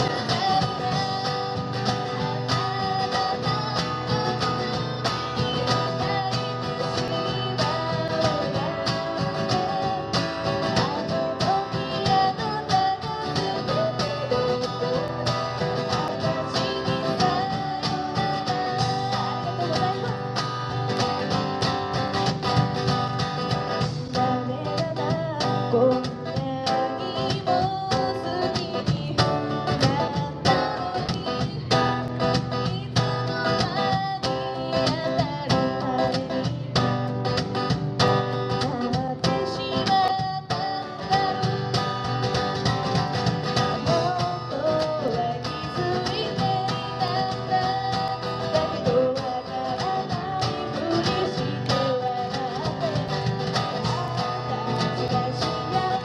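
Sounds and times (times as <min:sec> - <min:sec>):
person singing: 0:00.0 - 0:22.6, 0:23.4 - 0:56.0
acoustic guitar strumming: 0:00.0 - 0:56.0.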